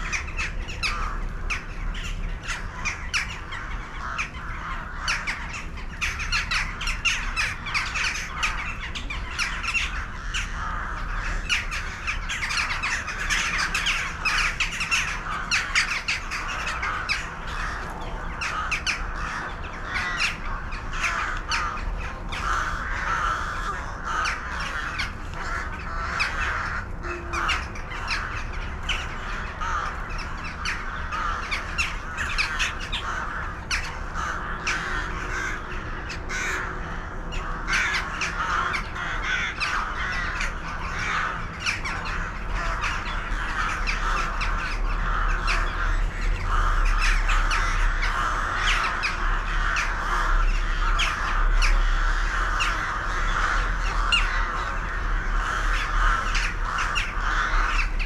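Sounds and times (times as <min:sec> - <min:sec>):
flock of birds calling: 0:00.0 - 0:58.0.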